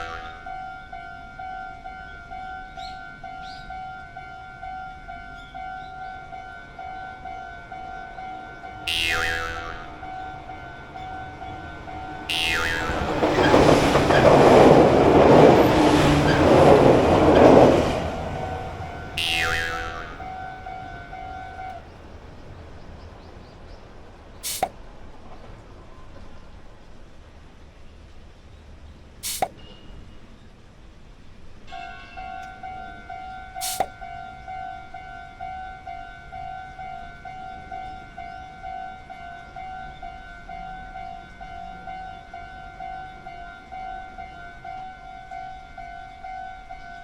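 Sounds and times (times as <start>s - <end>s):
railroad crossing warning bell: 0.0s - 23.4s, 29.5s - 30.4s, 31.6s - 47.0s.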